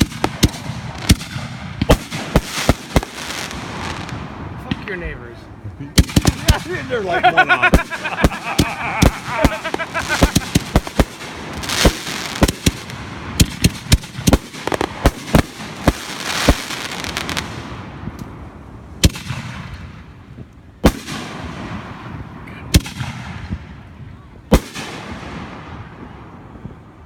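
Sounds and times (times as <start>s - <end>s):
loud fireworks bangs echoing: 0.0s - 5.0s, 6.0s - 6.9s, 7.6s - 18.2s, 19.0s - 26.8s
fireworks bangs and crackles: 0.0s - 27.0s.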